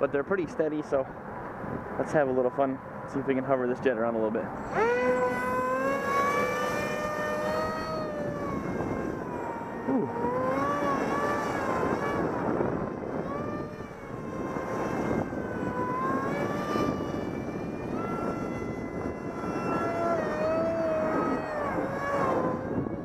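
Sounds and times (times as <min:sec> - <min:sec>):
wind on microphone: 0:00.0 - 0:23.0
electric model aircraft motor whining: 0:03.5 - 0:23.0.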